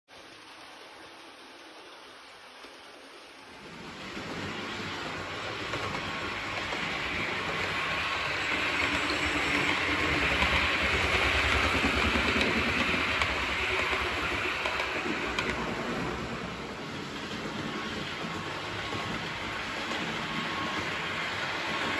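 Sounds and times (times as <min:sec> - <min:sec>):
model train wheels rattling on rails: 0:03.6 - 0:21.9.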